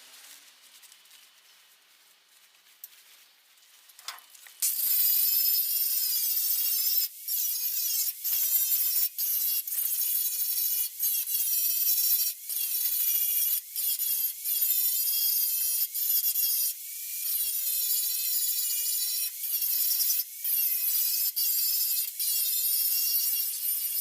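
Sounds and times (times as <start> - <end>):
angle grinder on metal: 4.6 - 24.0.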